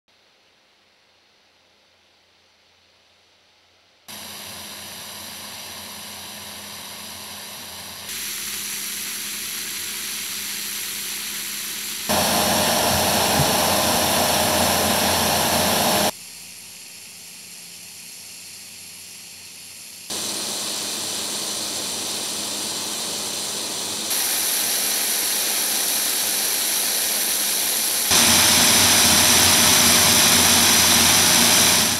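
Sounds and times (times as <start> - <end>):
snowmaking guns hissing: 4.1 - 31.9.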